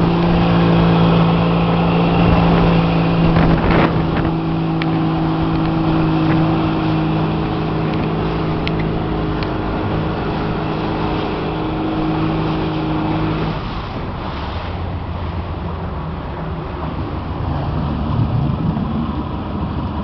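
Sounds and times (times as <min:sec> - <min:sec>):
motorboat engine humming: 0:00.0 - 0:20.0
rushing wind and water: 0:00.0 - 0:20.0.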